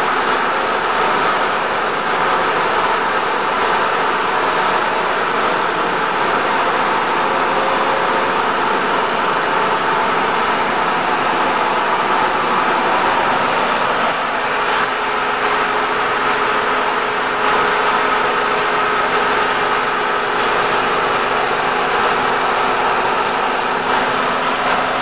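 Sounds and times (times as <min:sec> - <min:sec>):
oil extraction machine whirring: 0:00.0 - 0:25.0.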